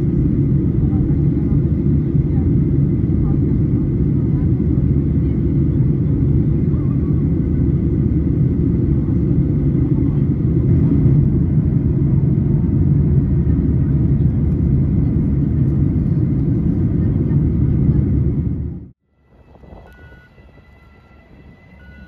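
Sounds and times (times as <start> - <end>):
jet airliner cabin noise: 0.0 - 22.0.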